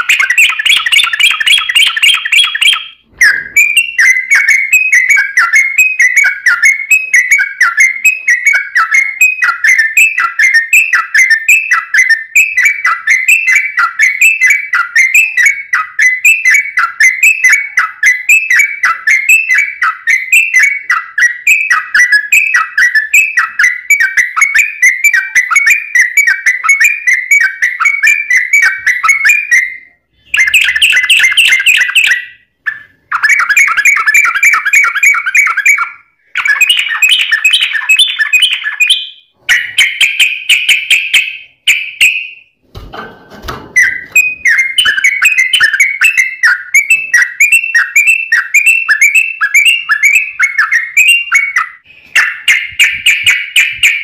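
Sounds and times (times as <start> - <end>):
bulbul chattering song: 0.0 - 42.5, 43.8 - 54.0.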